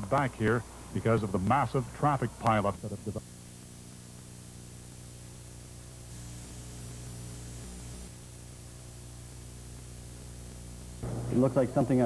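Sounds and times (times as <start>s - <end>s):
electrical hum: 0.0s - 12.0s
tape hiss: 0.0s - 12.0s.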